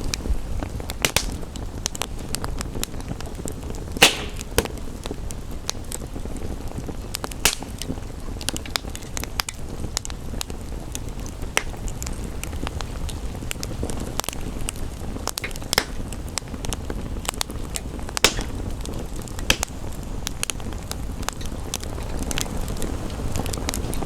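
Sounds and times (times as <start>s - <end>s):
rain hiss: 0.0s - 24.0s
wood fire crackling: 0.0s - 24.0s.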